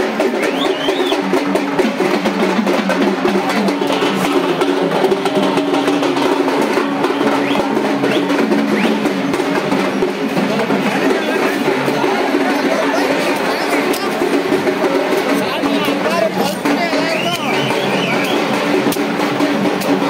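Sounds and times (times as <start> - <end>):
drums beating fast: 0.0 - 20.0.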